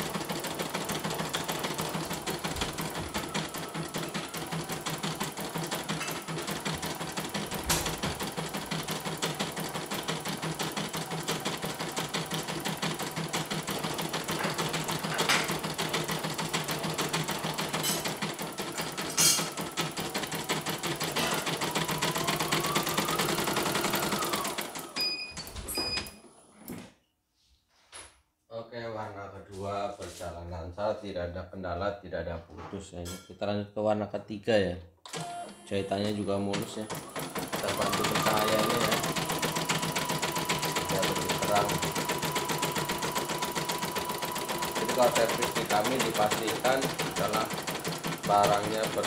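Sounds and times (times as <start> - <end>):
embroidery machine stitching: 0.0 - 26.2, 35.1 - 49.0.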